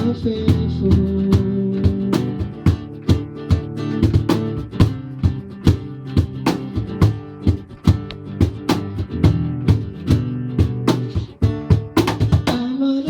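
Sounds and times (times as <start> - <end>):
acoustic guitar strumming chords: 0.0 - 13.0
beatboxed percussion: 0.0 - 13.0.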